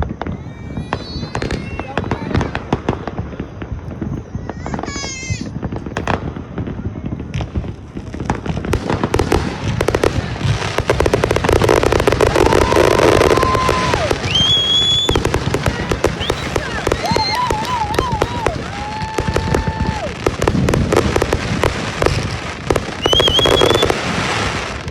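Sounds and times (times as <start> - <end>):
firework whistling: 0.0 - 24.9
fireworks crackling and popping: 0.0 - 24.9.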